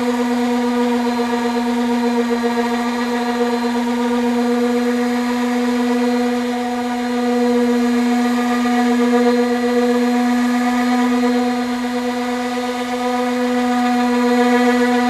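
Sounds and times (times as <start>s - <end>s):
power sander running: 0.0s - 15.0s.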